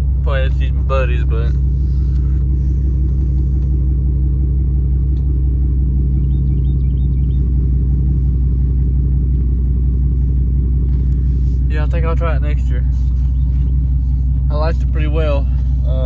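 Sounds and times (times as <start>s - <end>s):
motor vehicle drone: 0.0s - 16.0s.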